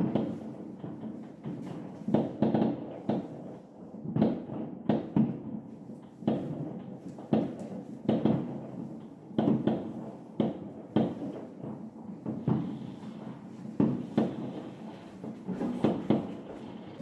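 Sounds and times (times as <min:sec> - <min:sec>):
fireworks bangs with echo: 0:00.0 - 0:17.0.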